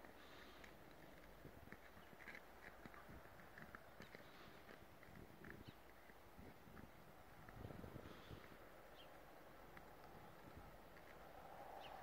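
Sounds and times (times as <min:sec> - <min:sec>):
paws crunching through snow: 0:00.0 - 0:12.0.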